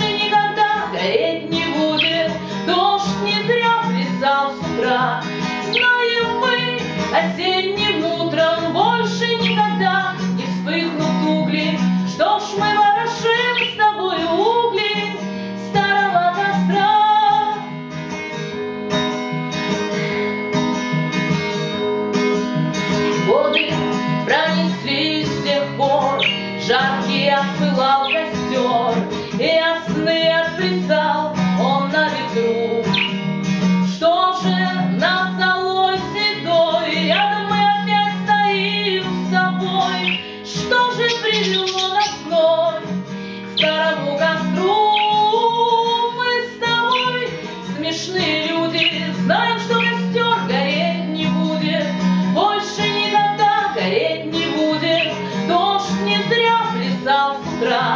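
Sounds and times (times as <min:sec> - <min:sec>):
woman singing: 0:00.0 - 0:17.8, 0:22.9 - 0:57.9
acoustic guitar strummed: 0:00.0 - 0:57.9.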